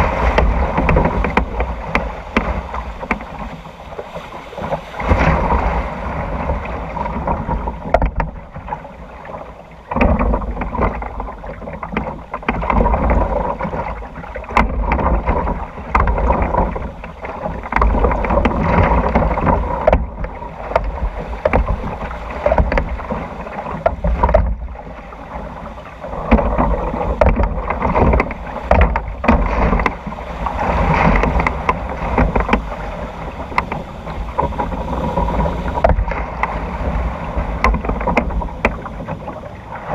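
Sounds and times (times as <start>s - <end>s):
water rushing and splashing: 0.0s - 39.9s
wind rumbling on microphone: 0.0s - 39.9s.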